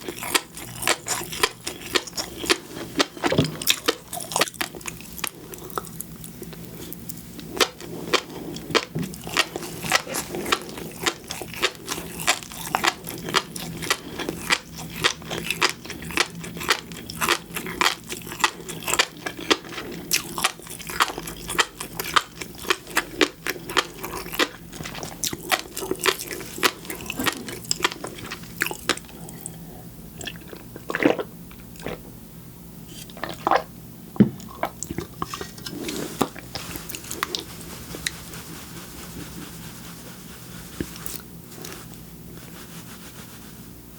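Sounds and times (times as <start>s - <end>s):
chewing with wet crunching: 0.0s - 32.1s, 32.9s - 33.7s, 34.4s - 39.4s.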